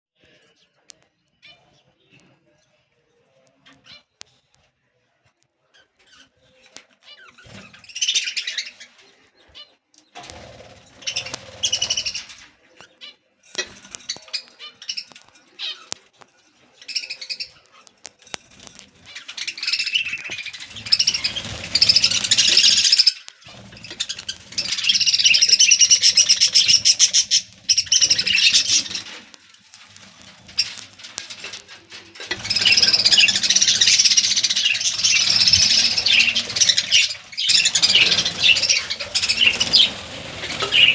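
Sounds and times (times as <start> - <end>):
budgerigars chirping and chattering: 3.6 - 4.5, 5.7 - 40.9.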